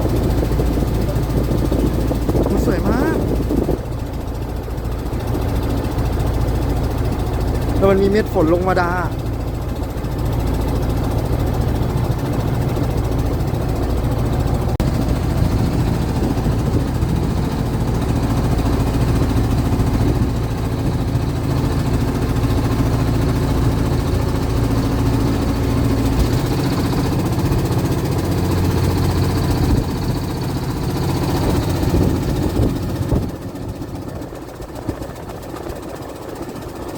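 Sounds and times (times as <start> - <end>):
boat engine droning: 0.0 - 36.9.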